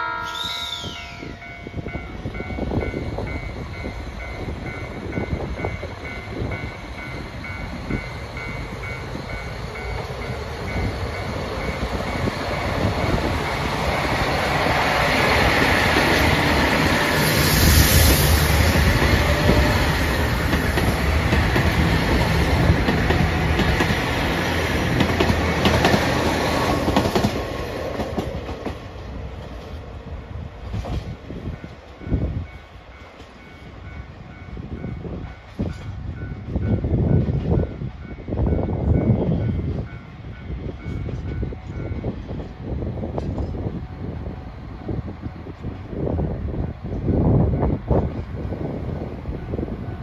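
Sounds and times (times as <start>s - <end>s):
diesel train engine: 0.0s - 50.0s.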